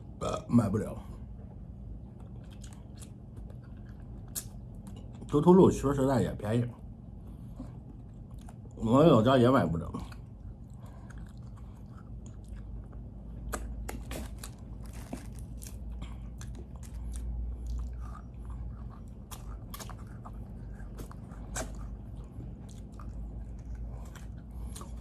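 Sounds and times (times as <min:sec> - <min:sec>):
person chewing meat: 0:01.2 - 0:05.5, 0:06.8 - 0:08.8, 0:09.7 - 0:25.0.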